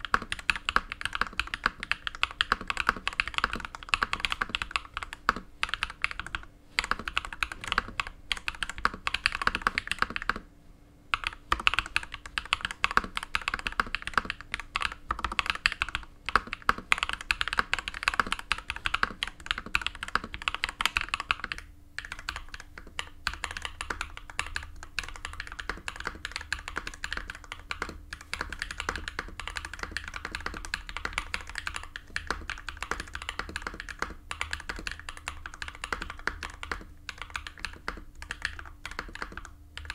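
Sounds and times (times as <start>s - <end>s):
fast typing on mechanical keyboard: 0.0s - 10.4s, 11.1s - 39.9s.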